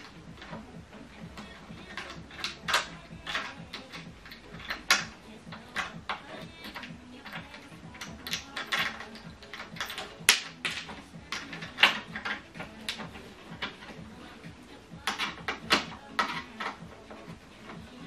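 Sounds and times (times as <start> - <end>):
fitting clicking and scraping: 0.0 - 18.0.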